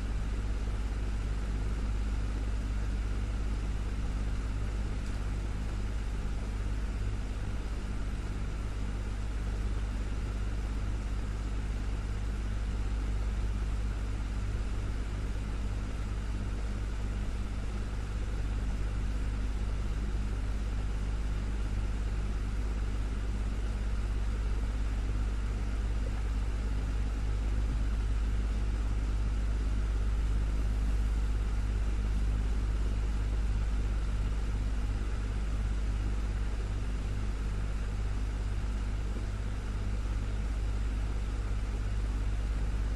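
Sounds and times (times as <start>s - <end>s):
desktop fan running: 0.0s - 42.9s.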